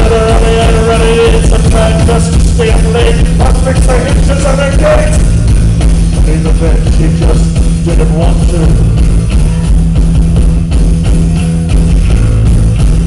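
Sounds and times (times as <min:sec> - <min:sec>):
electric guitar: 0:00.0 - 0:13.0
live rock band playing: 0:00.0 - 0:13.0
pounding low end: 0:00.0 - 0:13.0.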